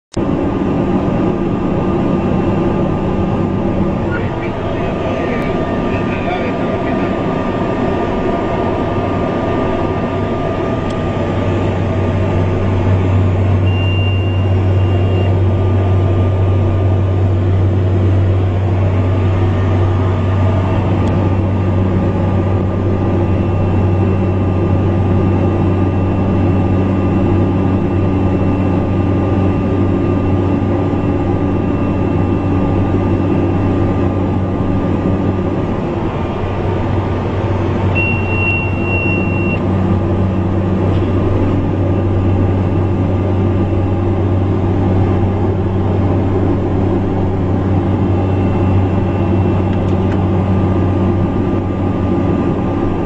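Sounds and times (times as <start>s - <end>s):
light aircraft engine droning: 0.1s - 53.0s.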